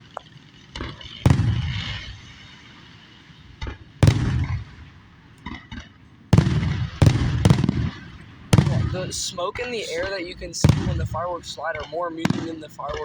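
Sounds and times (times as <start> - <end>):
fireworks booming: 0.0 - 13.0
small fireworks pops: 0.0 - 13.0.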